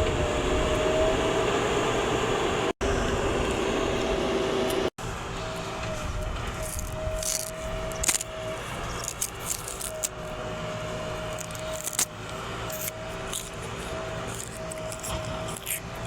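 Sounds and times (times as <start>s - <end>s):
diesel engine with high whine: 0.0s - 16.0s.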